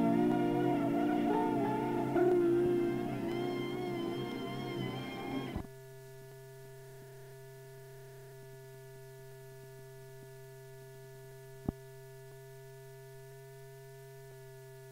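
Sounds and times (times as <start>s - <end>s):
steady electrical hum: 0.0s - 14.9s.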